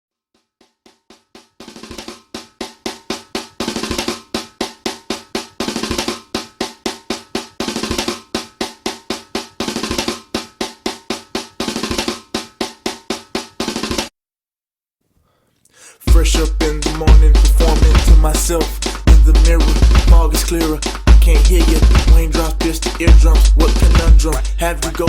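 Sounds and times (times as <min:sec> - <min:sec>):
hip hop drum beat: 0:00.8 - 0:14.1, 0:16.1 - 0:25.0.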